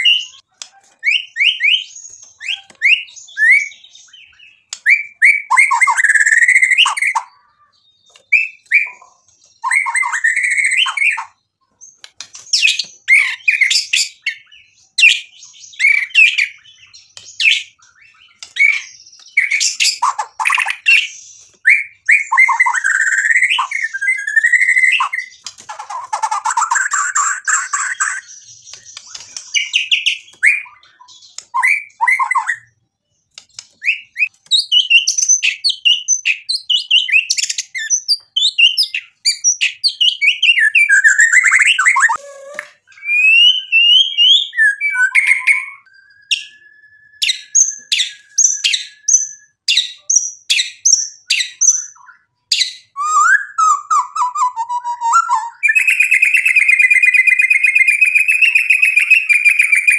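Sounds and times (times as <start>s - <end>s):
songbird singing loudly: 0.0s - 59.9s.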